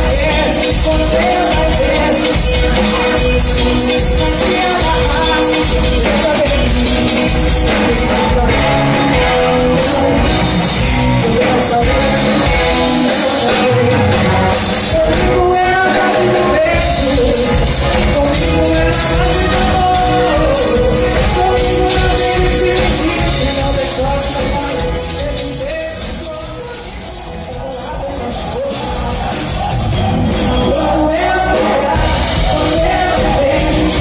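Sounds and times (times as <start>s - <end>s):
band playing music: 0.0s - 34.0s
person singing: 0.0s - 34.0s.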